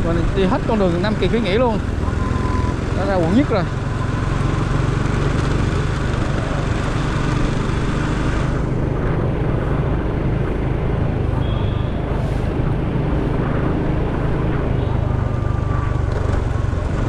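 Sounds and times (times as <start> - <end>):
motorcycle engine droning: 0.0 - 17.0
wind rushing on microphone: 0.0 - 17.0.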